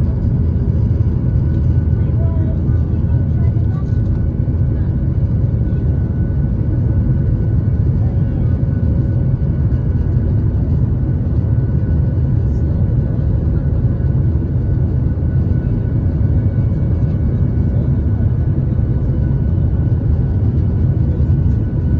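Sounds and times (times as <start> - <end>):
faint engine whine: 0.0 - 21.9
jet engines rumbling: 0.0 - 21.9.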